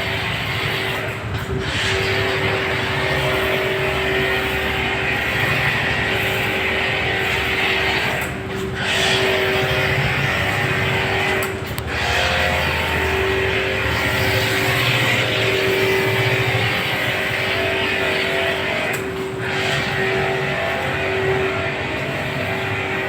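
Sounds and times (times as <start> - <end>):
pressure washer motor hum: 0.0 - 23.0.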